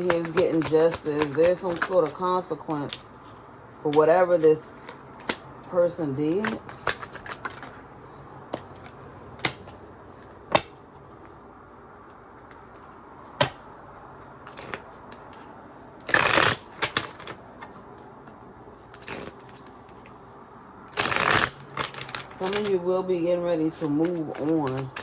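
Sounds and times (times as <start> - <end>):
cards shuffling: 0.0 - 11.4, 12.0 - 20.2, 20.9 - 22.9, 23.6 - 25.0.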